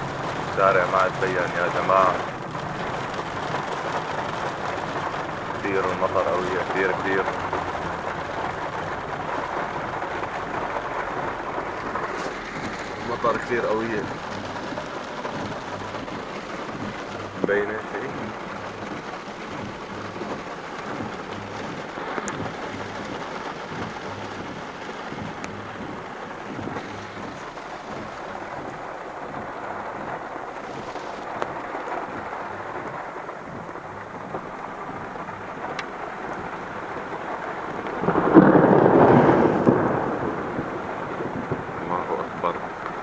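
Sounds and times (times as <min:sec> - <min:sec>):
heavy rain falling: 0:00.0 - 0:43.0
thunder rumble: 0:00.0 - 0:43.0.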